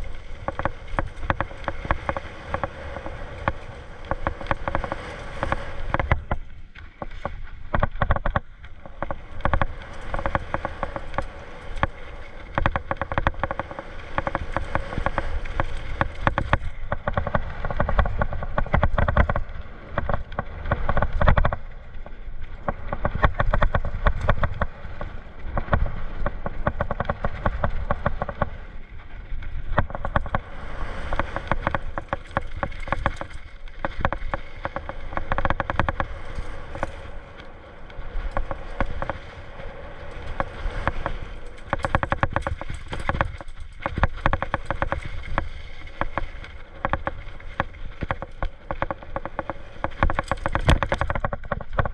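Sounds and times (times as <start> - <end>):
mountain bike rattling: 0.0 - 51.9.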